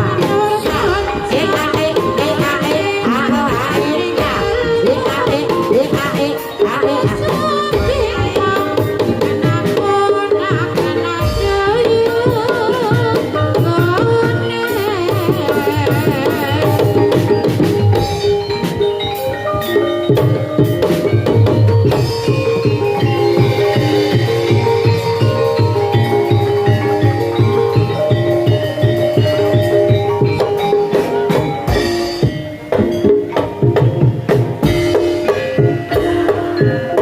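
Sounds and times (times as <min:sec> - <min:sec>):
hand drums beating: 0:00.0 - 0:37.0
metallophone notes: 0:00.0 - 0:37.0
wavering melody line: 0:00.0 - 0:37.0.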